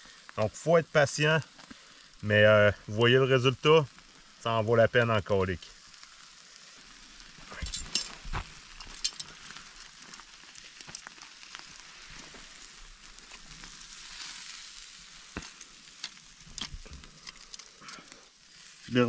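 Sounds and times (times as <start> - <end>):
fat popping and crackling: 0.0 - 19.0
steak sizzling: 0.0 - 19.0.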